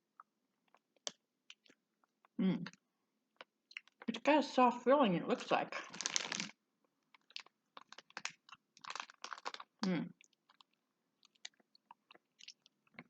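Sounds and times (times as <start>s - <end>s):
person chewing candy: 0.0s - 4.1s, 5.9s - 13.0s.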